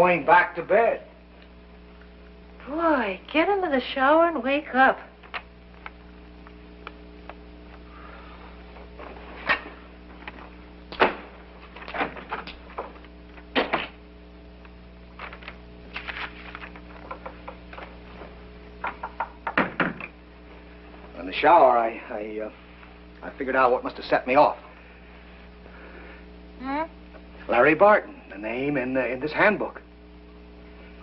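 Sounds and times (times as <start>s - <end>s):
television soundtrack hum: 0.0s - 31.0s.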